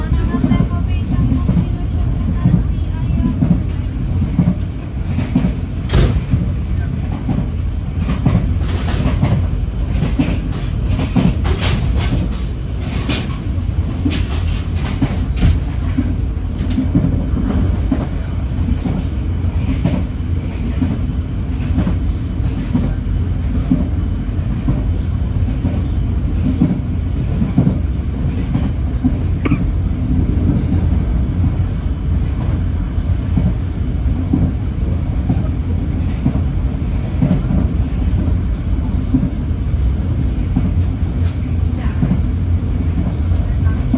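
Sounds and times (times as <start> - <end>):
train wheels rumbling on track: 0.0 - 43.9.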